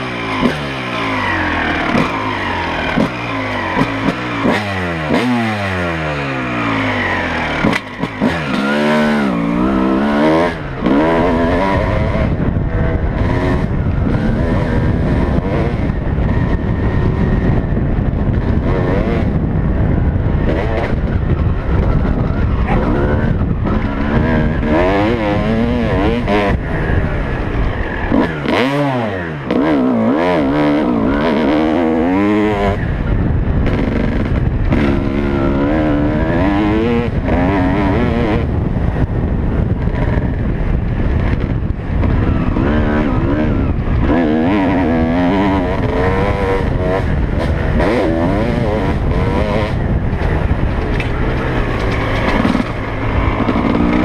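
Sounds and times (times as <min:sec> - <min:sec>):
motocross bike engine revving: 0:00.0 - 0:54.0
wind rumble: 0:00.0 - 0:54.0.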